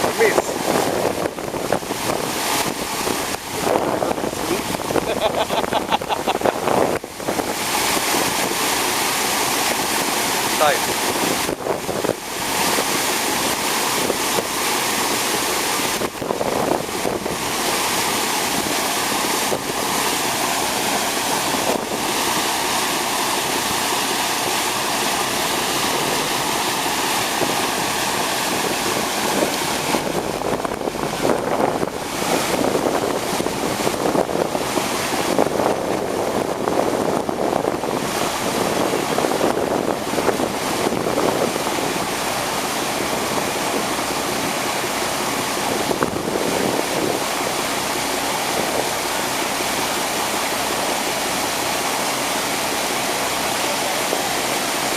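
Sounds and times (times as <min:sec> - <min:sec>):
water rushing: 0:00.0 - 0:54.9
wind on microphone: 0:00.0 - 0:54.9.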